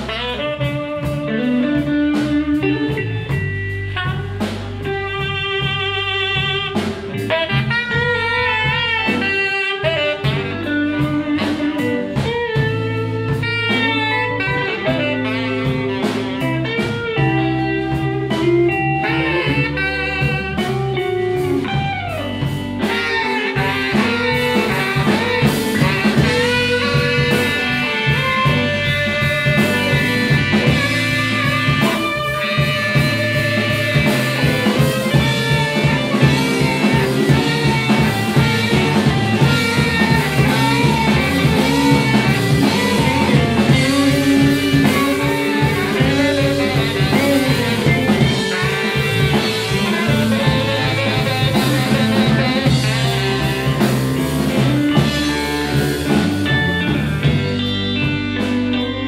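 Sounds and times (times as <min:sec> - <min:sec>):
bass: 0:00.0 - 0:59.0
drum kit: 0:00.0 - 0:59.0
electric guitar: 0:00.0 - 0:59.0
saxophone: 0:00.0 - 0:59.0.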